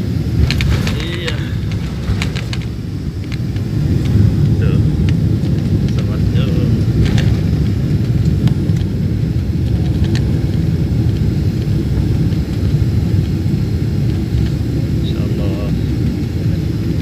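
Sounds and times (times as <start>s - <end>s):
airliner engine and airflow rumble: 0.0s - 17.0s.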